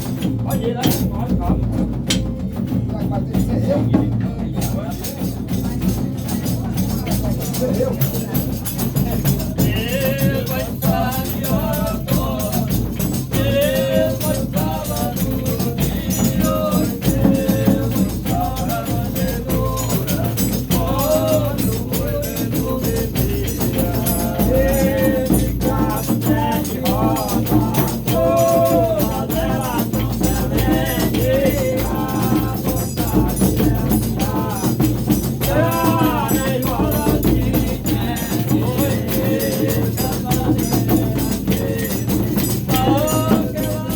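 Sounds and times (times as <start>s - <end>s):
drum beat: 0.0s - 43.9s
tambourine: 0.0s - 43.9s
voices singing: 0.0s - 43.9s.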